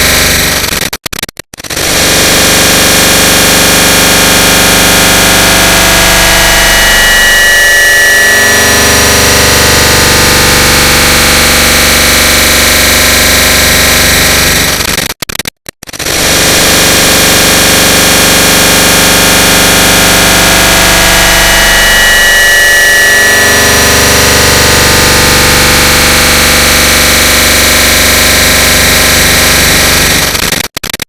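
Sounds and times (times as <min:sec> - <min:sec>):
harsh distorted click noise: 0:00.0 - 0:31.0.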